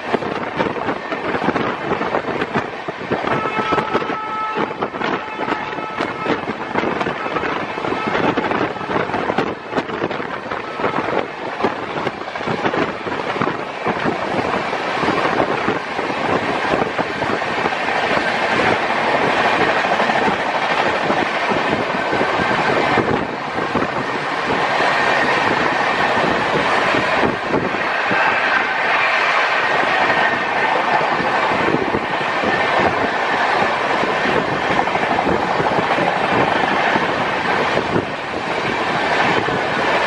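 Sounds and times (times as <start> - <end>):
rail joints clickety-clack: 0.0 - 40.0
train wheels rumbling on rails: 0.0 - 40.0.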